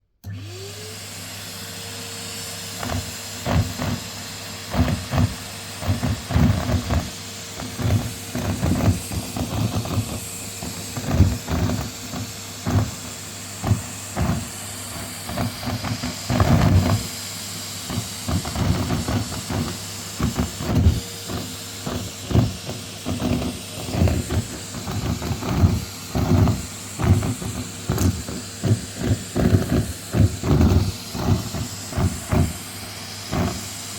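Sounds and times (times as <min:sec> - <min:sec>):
vacuum cleaner motor whine: 0:00.0 - 0:33.9
scraps rattling up nozzle: 0:02.8 - 0:33.9.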